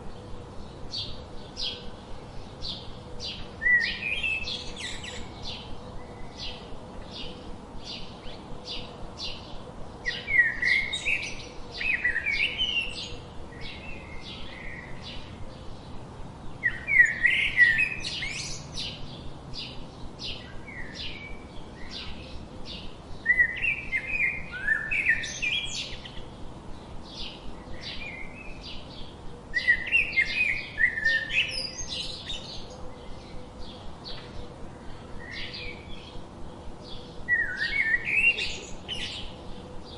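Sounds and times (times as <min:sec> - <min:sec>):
bird warbling song: 0:00.0 - 0:39.9
songbirds chirping: 0:00.0 - 0:39.9.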